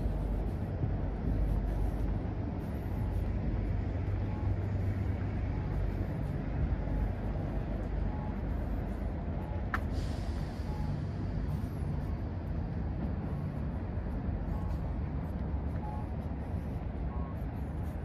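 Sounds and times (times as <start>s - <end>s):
city road traffic rumble: 0.0s - 18.0s.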